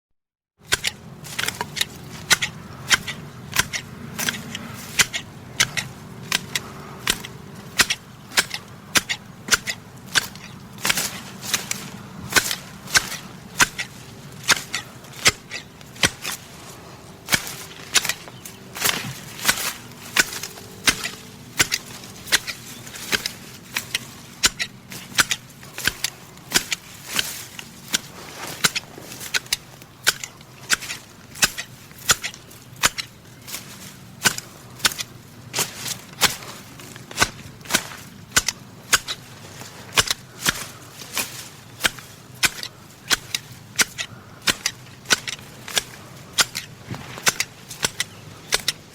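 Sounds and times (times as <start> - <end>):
grass shears snipping: 0.6 - 48.9.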